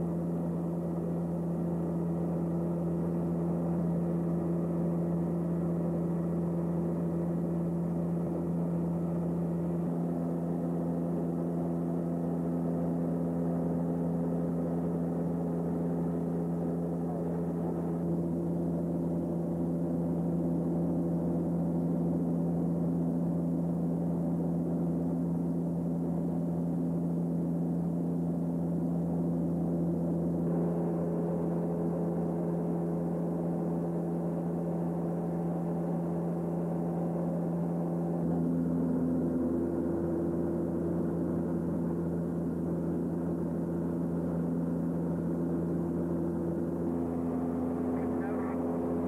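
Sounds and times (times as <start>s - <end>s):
turboprop cabin drone: 0.0s - 49.0s.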